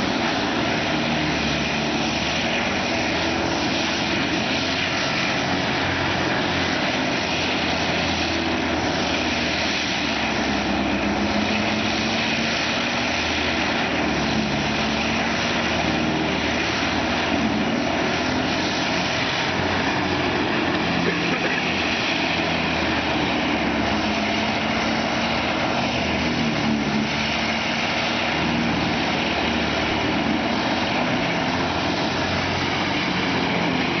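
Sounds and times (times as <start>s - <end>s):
engine drone: 0.0s - 34.0s
wood grinding rush: 0.0s - 34.0s.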